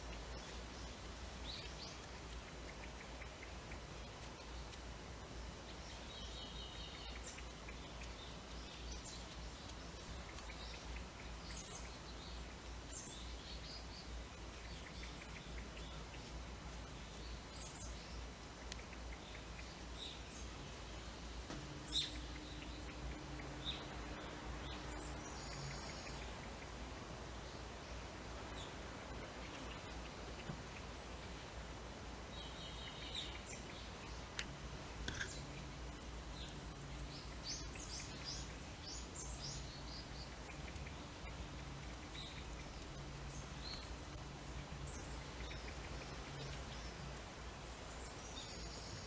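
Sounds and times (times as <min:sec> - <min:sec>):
birds chirping: 0:00.0 - 0:49.0
low steady hum: 0:00.0 - 0:49.0.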